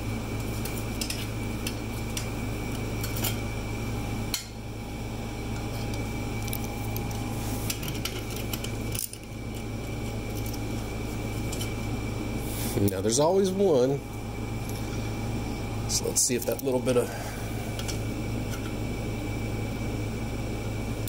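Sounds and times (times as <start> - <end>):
steady fan-like hum: 0.0 - 21.0.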